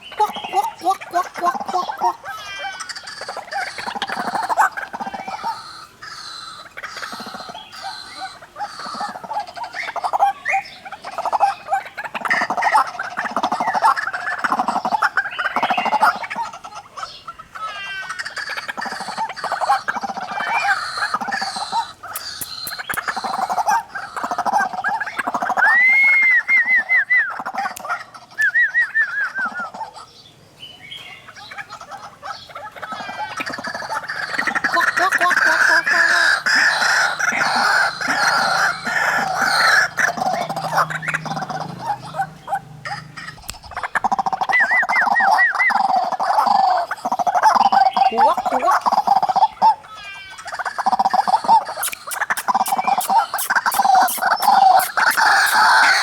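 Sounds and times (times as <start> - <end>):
waterhens gobbling calls: 0.0 - 30.2, 30.8 - 56.0.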